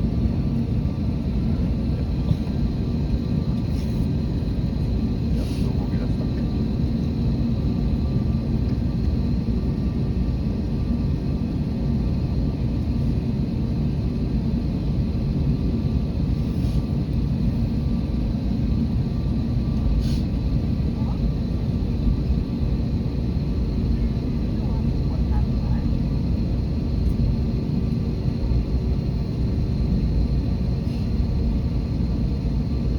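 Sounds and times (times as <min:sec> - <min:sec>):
airliner low rumble: 0:00.0 - 0:32.9.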